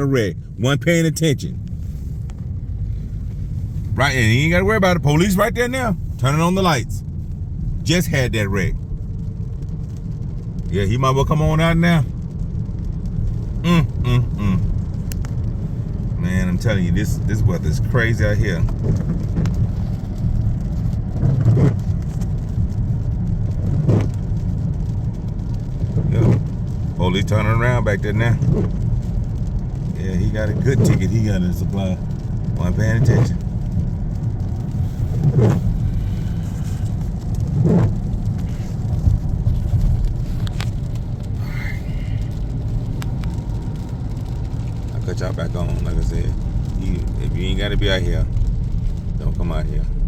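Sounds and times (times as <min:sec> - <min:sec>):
car cabin engine and road rumble: 0:00.0 - 0:50.0.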